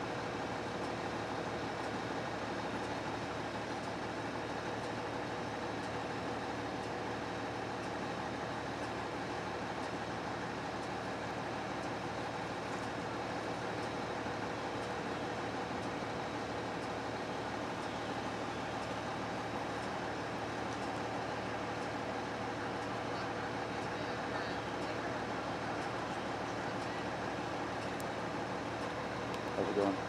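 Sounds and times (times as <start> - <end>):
vehicle rumble and hiss: 0.0 - 30.0.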